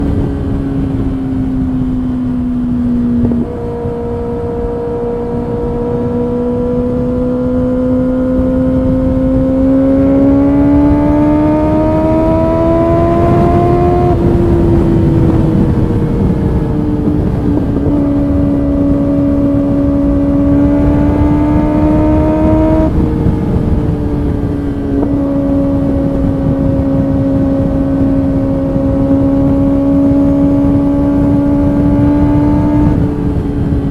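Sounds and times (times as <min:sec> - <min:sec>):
low rushing noise: 0:00.0 - 0:33.9
motorcycle engine accelerating: 0:00.0 - 0:33.9.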